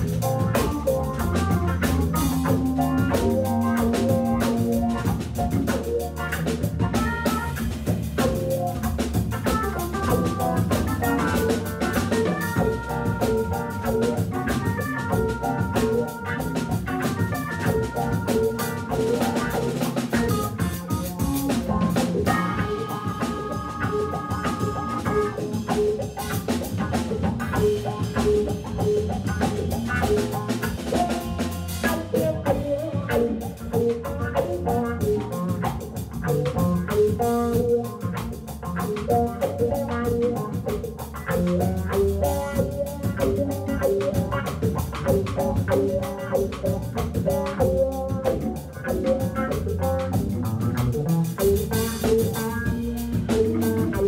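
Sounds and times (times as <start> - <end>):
drum kit: 0.0 - 54.0
electric guitar: 0.0 - 54.0
organ playing: 0.0 - 54.0.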